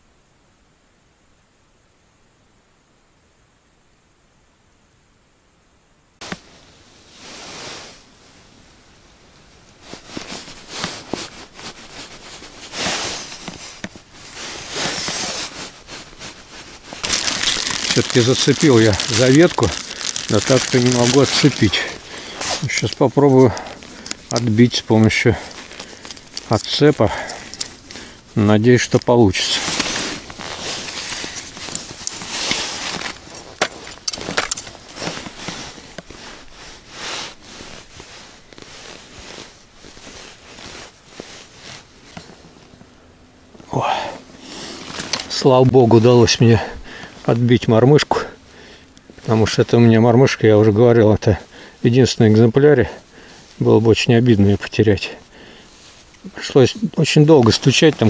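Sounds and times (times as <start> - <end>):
rustling: 6.2 - 58.0.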